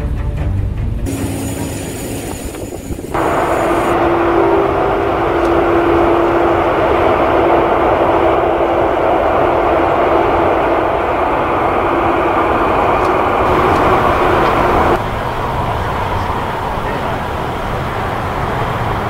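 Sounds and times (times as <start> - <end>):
jet engines droning with whine: 1.1 - 19.0.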